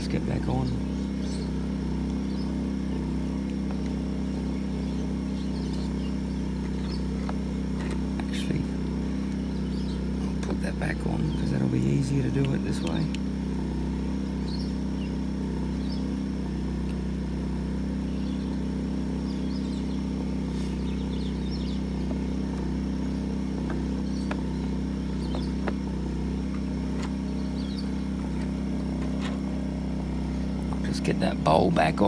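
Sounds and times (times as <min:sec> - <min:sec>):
birds chirping: 0:00.0 - 0:32.0
small generator humming: 0:00.0 - 0:32.0.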